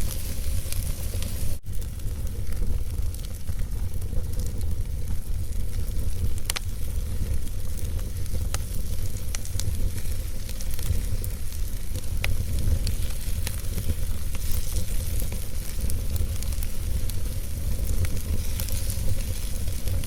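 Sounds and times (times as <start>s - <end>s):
fire crackles and pops: 0.0s - 20.0s
fire rumble and hiss: 0.0s - 20.0s.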